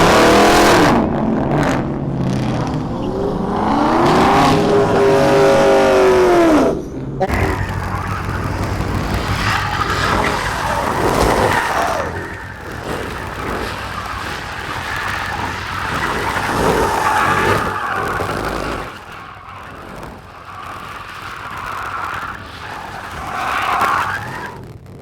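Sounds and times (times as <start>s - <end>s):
car engine revving hard: 0.0s - 24.6s
tyres squealing: 4.1s - 24.6s.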